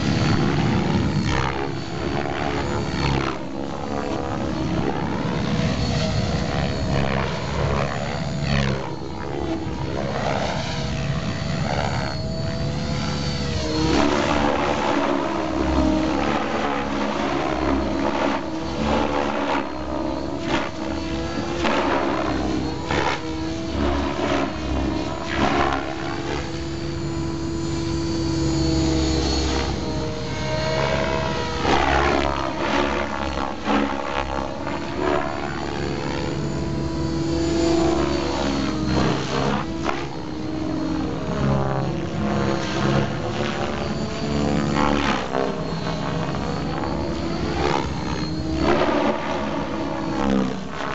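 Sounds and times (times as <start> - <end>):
model helicopter rotor and motor: 0.0 - 50.9.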